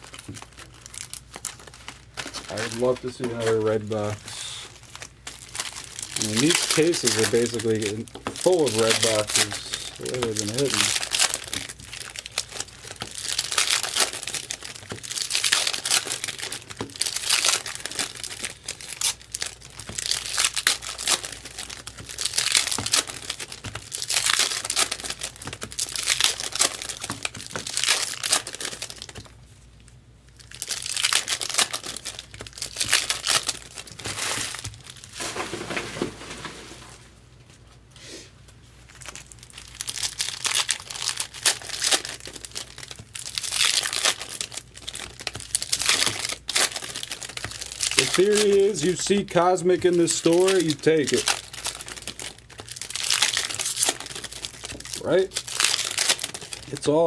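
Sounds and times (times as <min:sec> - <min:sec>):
foil wrappers crinkling and tearing: 0:00.0 - 0:37.0, 0:38.6 - 0:57.0.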